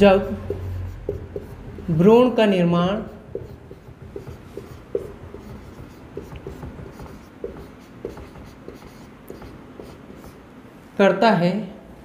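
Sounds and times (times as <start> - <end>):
marker pen writing on whiteboard: 0.0 - 10.5.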